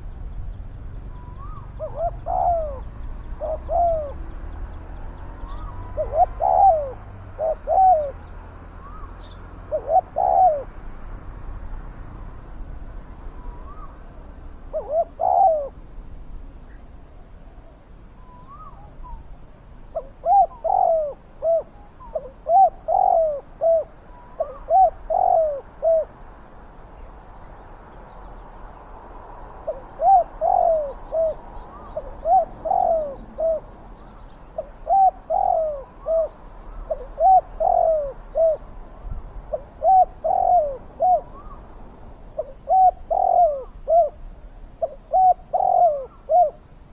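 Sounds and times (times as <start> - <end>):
dove cooing: 1.0 - 10.9, 13.2 - 15.8, 17.6 - 26.2, 29.5 - 46.9.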